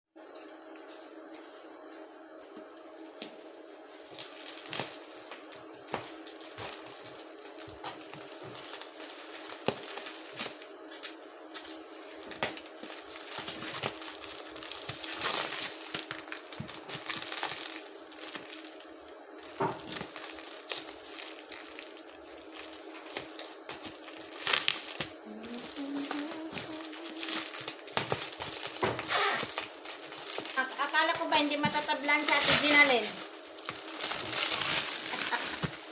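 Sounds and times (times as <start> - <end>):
steady low hum: 0.2 - 35.9
plastic packaging crinkling: 2.3 - 35.9.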